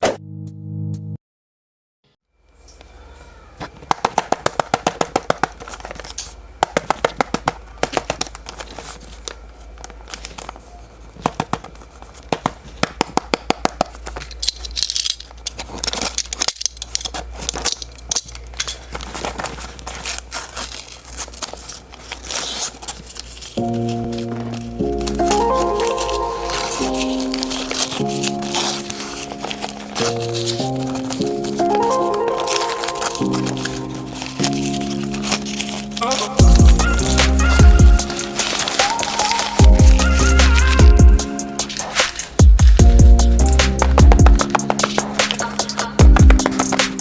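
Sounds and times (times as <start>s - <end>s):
packaging crinkling and tearing: 3.6s - 47.0s.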